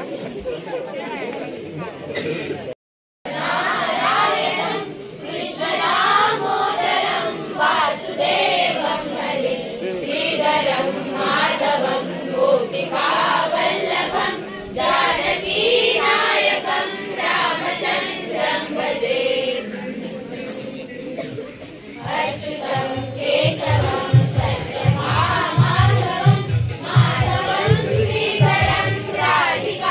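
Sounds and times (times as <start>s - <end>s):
children singing in chorus: 3.3s - 29.9s.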